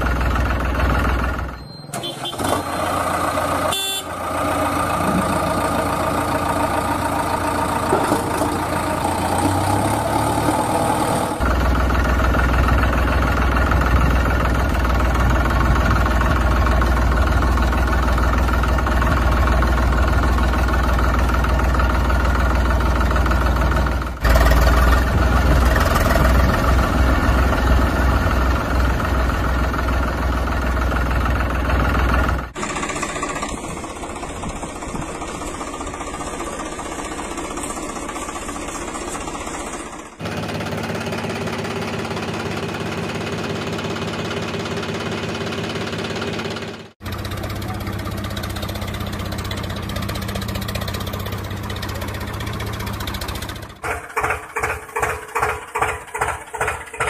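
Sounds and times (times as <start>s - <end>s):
engine running with deep hum: 0.0s - 53.8s.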